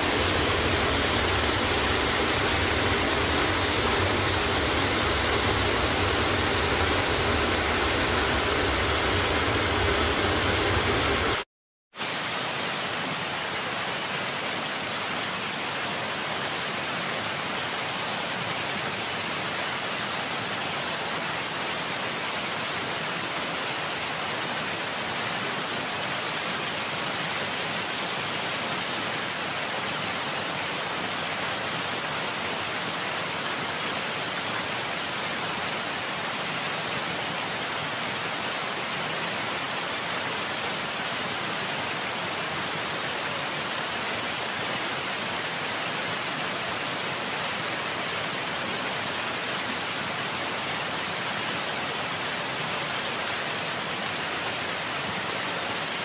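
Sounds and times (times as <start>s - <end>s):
water rushing: 0.0s - 11.4s, 12.0s - 56.0s.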